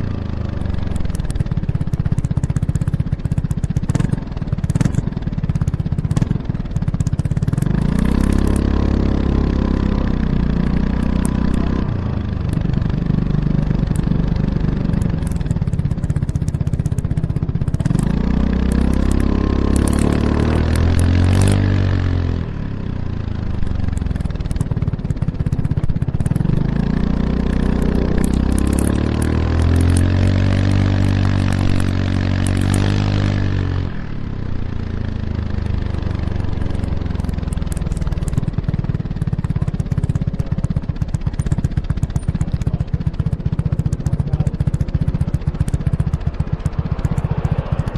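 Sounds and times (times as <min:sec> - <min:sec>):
scooter engine accelerating: 0:00.0 - 0:47.9.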